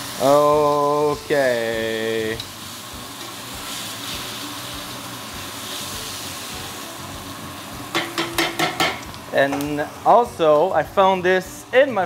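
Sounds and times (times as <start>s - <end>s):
steak sizzling in pan: 0.0s - 12.0s.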